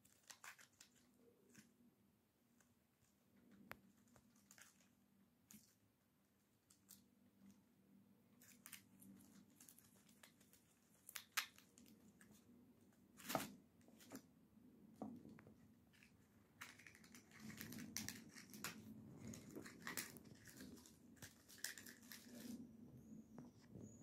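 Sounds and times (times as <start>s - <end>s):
dry husk crinkling and rustling: 0.0s - 14.3s, 14.9s - 23.7s
squirrel gnawing corn cob: 0.0s - 14.3s, 15.2s - 22.7s.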